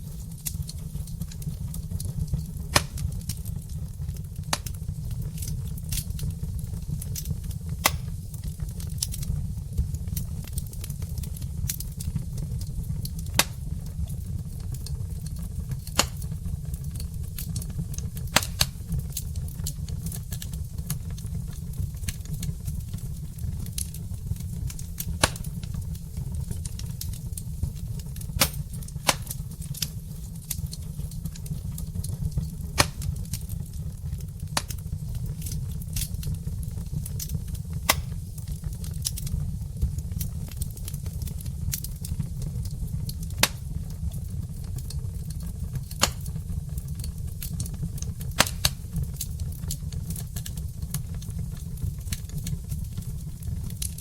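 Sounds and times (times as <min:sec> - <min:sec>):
low fire rumble: 0:00.0 - 0:54.0
wood fire crackling and popping: 0:00.0 - 0:54.0.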